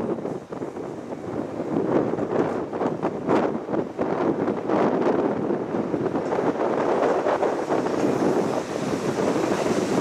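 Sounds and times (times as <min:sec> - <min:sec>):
train wheels rumbling on rail: 0:00.0 - 0:10.0
wind buffeting microphone: 0:00.0 - 0:10.0.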